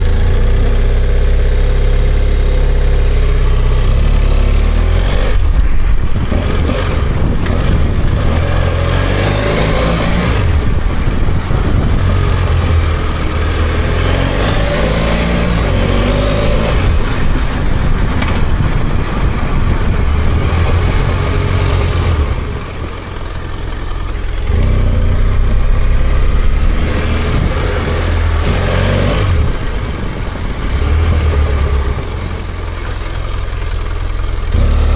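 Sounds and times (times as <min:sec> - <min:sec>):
motorcycle engine revving: 0:00.0 - 0:34.9
wind and road noise: 0:00.0 - 0:34.9.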